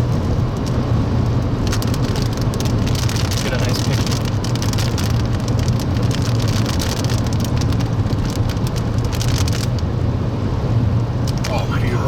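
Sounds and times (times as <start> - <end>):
car driving hum: 0.0 - 12.0
rain hitting car: 0.0 - 12.0.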